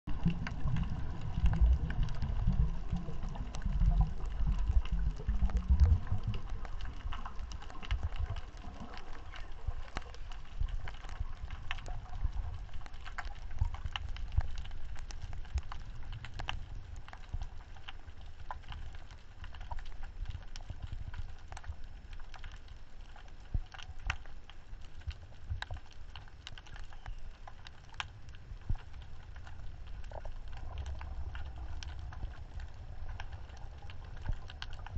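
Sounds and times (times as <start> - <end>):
low rumble of water: 0.1 - 34.9
snapping shrimp clicks and crackles: 0.1 - 34.9.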